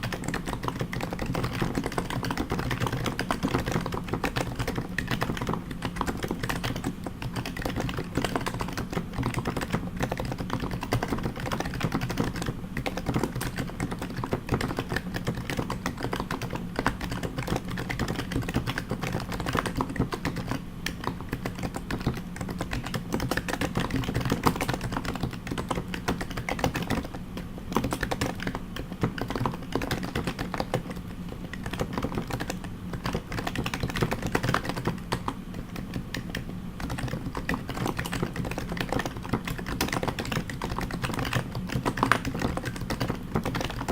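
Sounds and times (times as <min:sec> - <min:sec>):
fast keyboard typing: 0:00.0 - 0:43.9.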